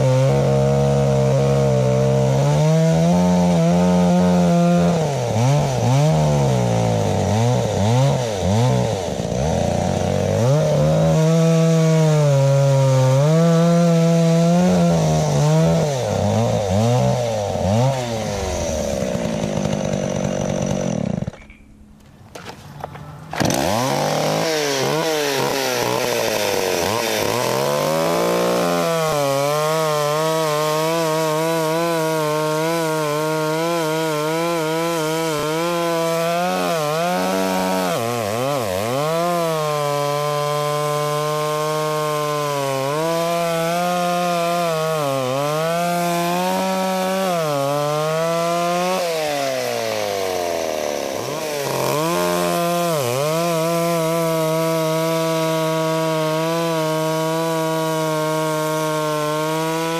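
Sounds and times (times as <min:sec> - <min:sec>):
chainsaw cutting a log: 0:00.0 - 0:21.8, 0:23.3 - 0:59.9.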